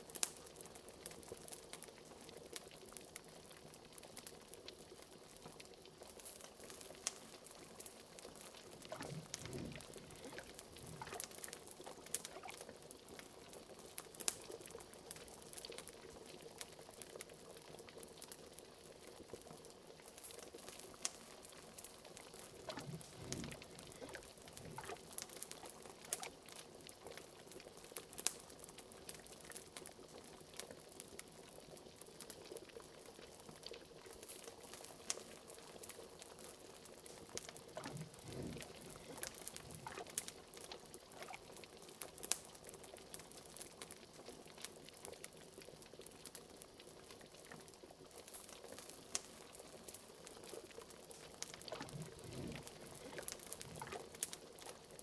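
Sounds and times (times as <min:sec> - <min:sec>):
wood fire crackling: 0:00.0 - 0:31.3, 0:32.0 - 0:55.0
liquid bubbling in a cauldron: 0:00.0 - 0:55.0.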